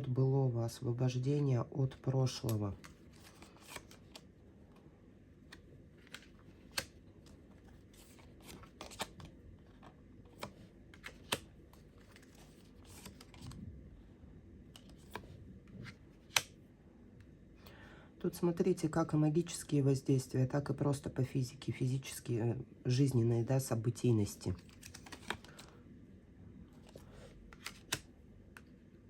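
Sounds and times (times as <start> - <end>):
soft rustling of cards: 0.0 - 17.7, 18.3 - 29.0.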